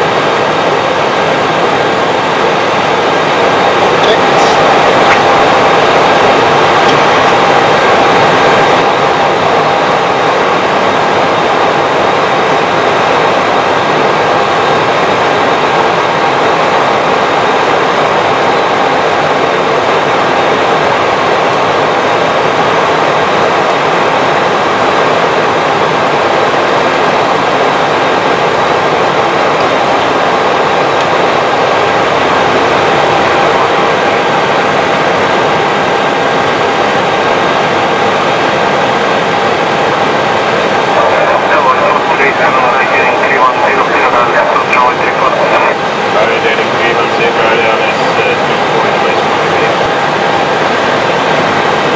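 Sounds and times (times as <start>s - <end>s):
cockpit airflow and engine rush: 0.0s - 51.9s.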